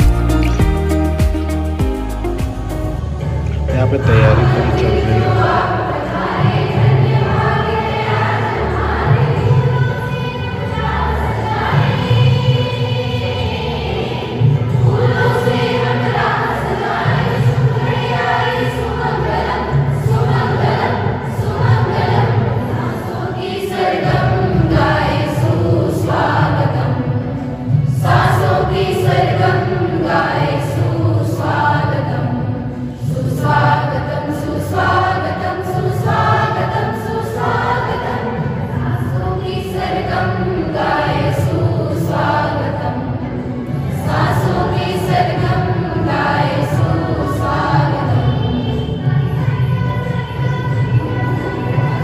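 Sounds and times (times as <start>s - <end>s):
mixed choir singing: 0.0s - 52.0s.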